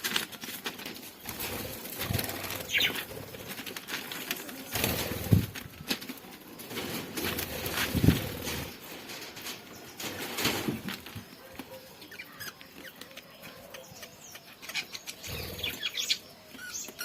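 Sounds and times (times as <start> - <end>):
birds pecking and cracking seed: 0.0 - 17.0.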